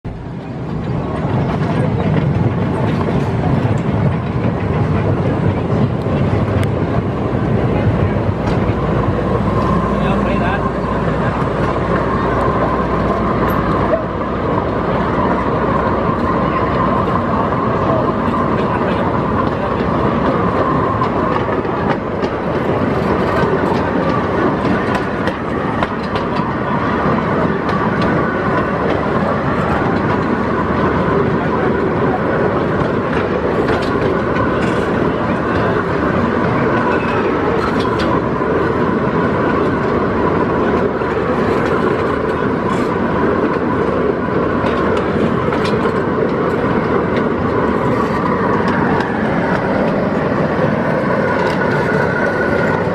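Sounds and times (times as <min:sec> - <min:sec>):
miniature train rumbling: 0:00.1 - 0:52.9
wheels clicking on rails: 0:00.1 - 0:52.9.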